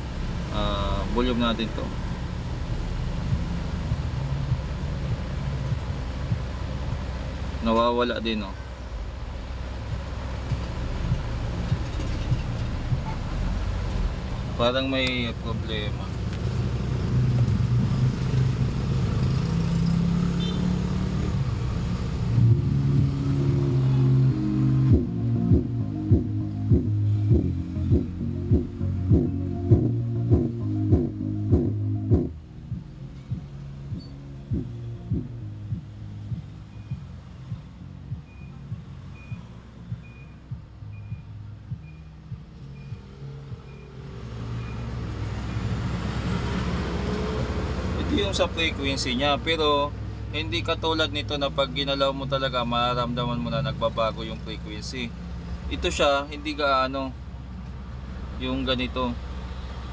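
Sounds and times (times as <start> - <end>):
deep bass notes from subwoofer: 0.0 - 19.2, 20.8 - 57.3.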